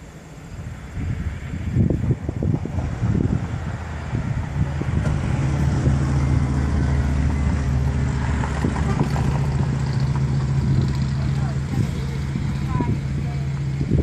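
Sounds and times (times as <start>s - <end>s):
rumbling buffeting: 0.0s - 14.0s
vehicle engine humming: 0.0s - 14.0s.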